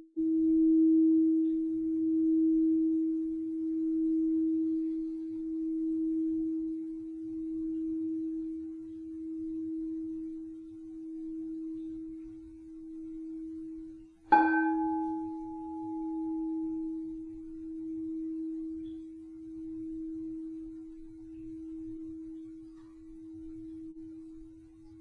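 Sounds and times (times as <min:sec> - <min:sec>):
crystal singing bowl ringing: 0:01.4 - 0:23.3.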